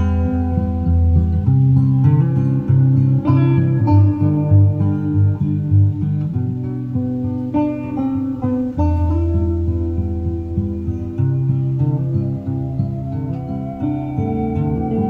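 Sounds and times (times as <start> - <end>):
guitar music from a cassette: 0.0 - 15.0.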